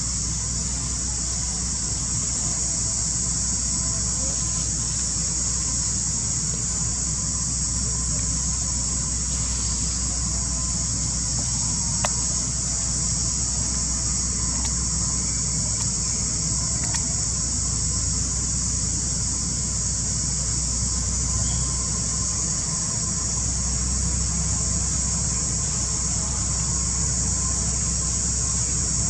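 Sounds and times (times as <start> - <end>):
insect chorus buzzing: 0.0 - 29.0
low steady rumble: 0.0 - 29.0.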